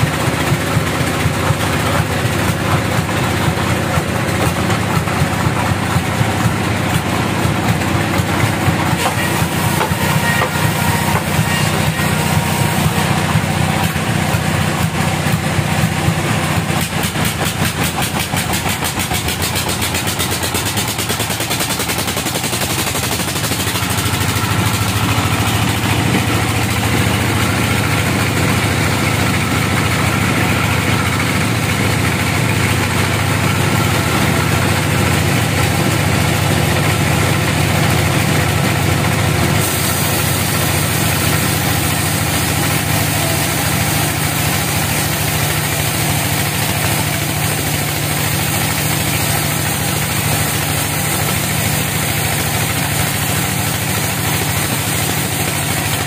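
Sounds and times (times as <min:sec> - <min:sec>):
band saw droning: 0:00.0 - 0:56.0.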